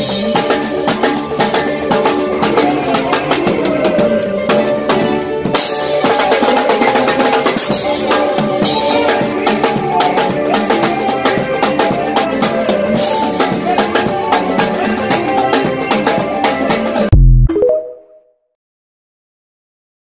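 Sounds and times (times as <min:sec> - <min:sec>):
band playing rumba: 0:00.0 - 0:17.3
drum kit playing busy beat: 0:00.0 - 0:17.9.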